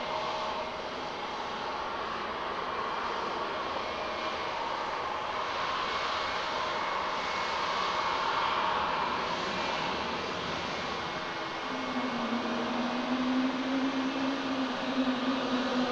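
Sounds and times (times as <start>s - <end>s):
jet engines rushing and whining: 0.0s - 15.9s.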